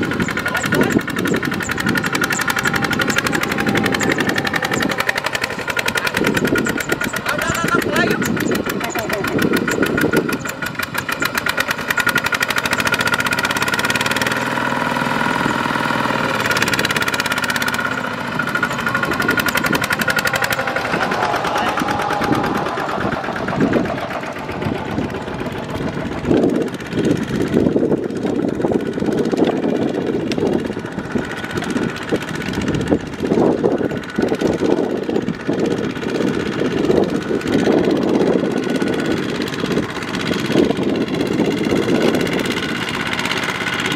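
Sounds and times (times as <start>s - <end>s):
diesel engines knocking: 0.0s - 43.9s.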